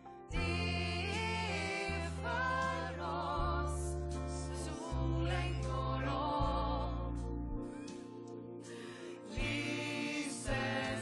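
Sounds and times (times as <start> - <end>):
piano: 0.0 - 11.0
sustained bass notes: 0.0 - 11.0
woman singing slow tender song: 0.3 - 11.0.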